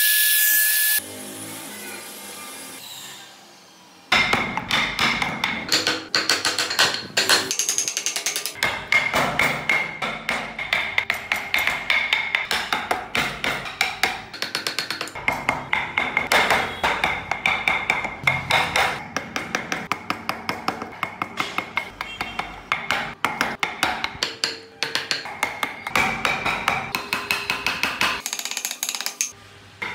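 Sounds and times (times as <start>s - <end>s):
mallet tapping chisel into wood: 4.2s - 29.3s.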